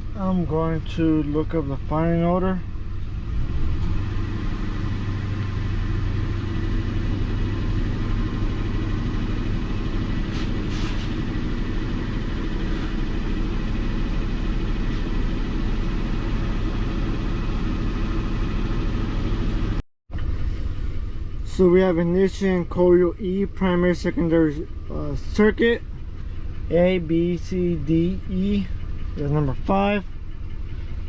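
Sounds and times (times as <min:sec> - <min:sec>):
misfiring car engine idling: 0:00.0 - 0:31.0.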